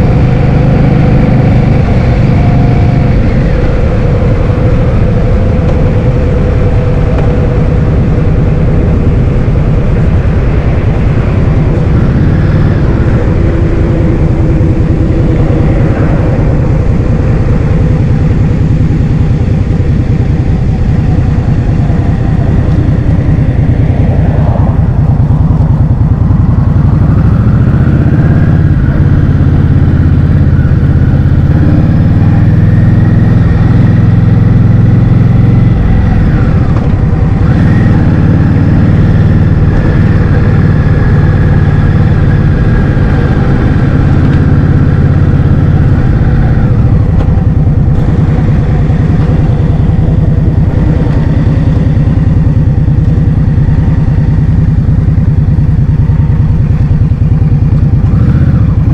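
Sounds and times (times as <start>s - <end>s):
scooter motor whine: 0.0s - 58.9s
wind buffeting microphone: 0.0s - 58.9s.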